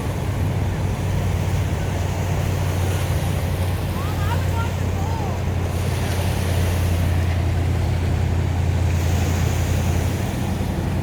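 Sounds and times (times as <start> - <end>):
boat motor droning: 0.0 - 11.0
sea noise: 0.0 - 11.0
wind: 0.0 - 11.0.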